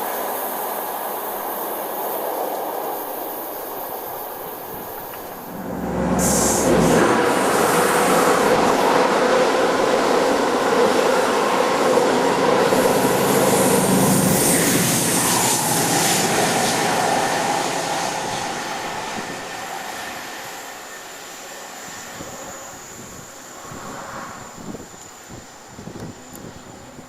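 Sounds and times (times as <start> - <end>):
diesel train running past: 0.0 - 27.0.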